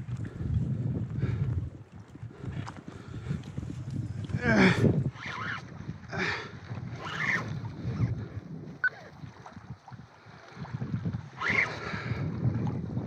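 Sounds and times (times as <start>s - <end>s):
water against kayak hull: 0.0s - 13.0s
wind buffeting microphone: 0.0s - 13.0s.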